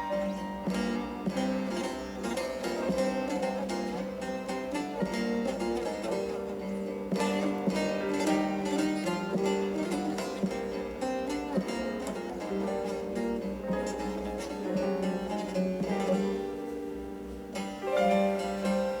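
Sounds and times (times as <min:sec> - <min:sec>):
plucked guitar-like string music: 0:00.0 - 0:19.0.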